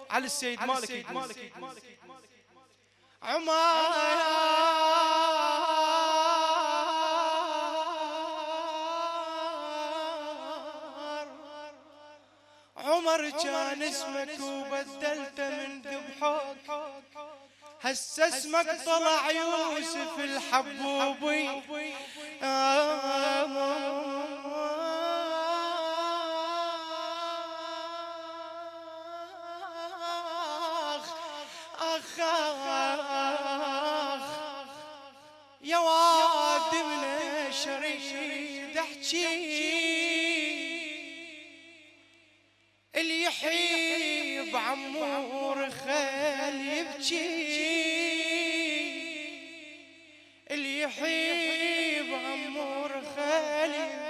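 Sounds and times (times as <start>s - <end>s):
man chanting a lament: 0.0s - 42.2s, 42.9s - 54.0s.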